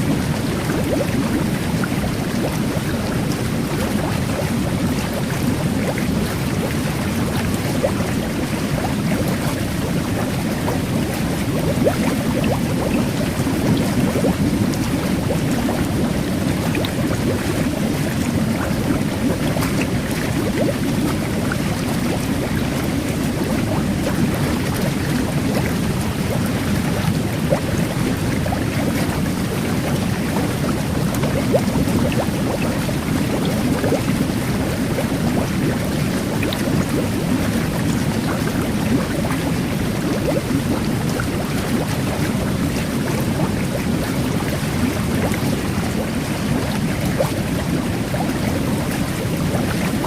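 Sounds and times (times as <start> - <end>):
bubbles fizzing: 0.0 - 50.0
jet bath churning water: 0.0 - 50.0.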